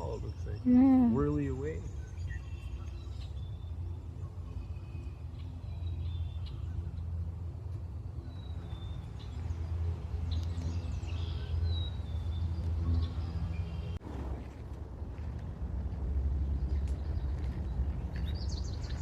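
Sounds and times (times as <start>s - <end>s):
small birds chirping: 0.0s - 14.0s, 16.4s - 19.0s
steady low rumble: 0.0s - 19.0s.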